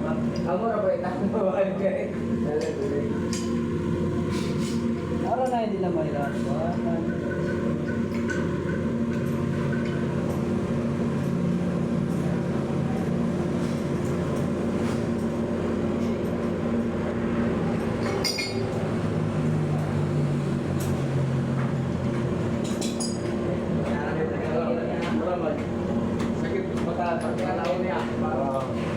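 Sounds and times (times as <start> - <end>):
low mechanical hum: 0.0 - 28.9.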